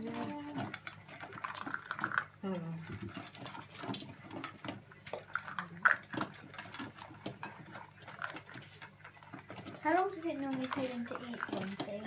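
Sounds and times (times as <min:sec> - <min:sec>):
food bowls clicking: 0:00.0 - 0:12.0
puppies chewing food: 0:00.0 - 0:12.0.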